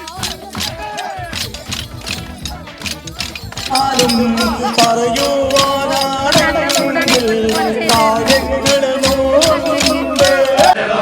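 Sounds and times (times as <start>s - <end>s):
sharp percussive strikes: 0.0s - 10.8s
voices singing folk song: 0.0s - 11.0s.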